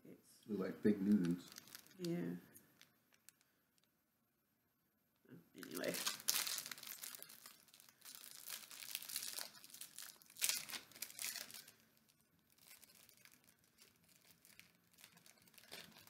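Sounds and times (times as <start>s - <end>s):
plastic wrapper crinkling: 1.0s - 3.9s, 5.6s - 16.0s.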